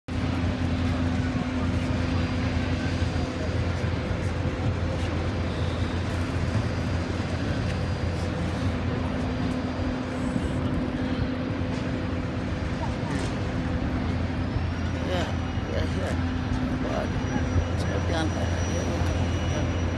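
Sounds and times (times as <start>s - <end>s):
jet airliner machinery hum: 0.1s - 19.9s.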